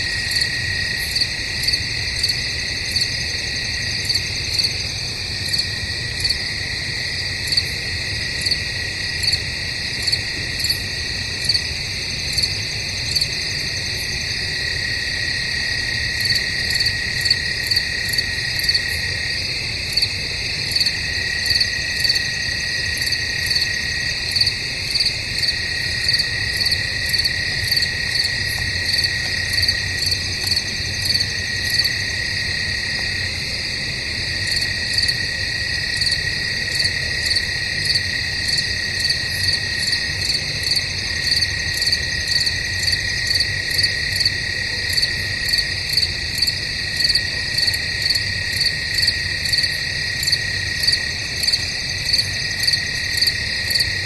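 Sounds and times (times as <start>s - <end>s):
crickets trilling: 0.0s - 54.0s
pulsing cricket chirp: 0.0s - 54.0s.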